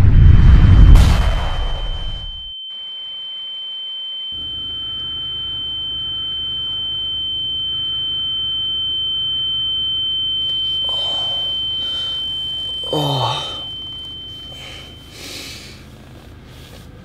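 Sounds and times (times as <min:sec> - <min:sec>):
low hum: 0:00.0 - 0:16.8
high-pitched ear-ringing tone: 0:02.2 - 0:16.1.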